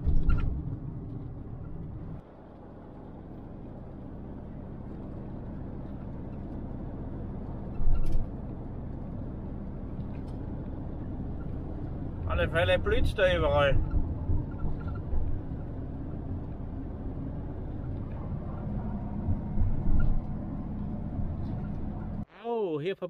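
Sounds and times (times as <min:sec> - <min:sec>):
vehicle engine and road rumble: 0:00.0 - 0:22.3.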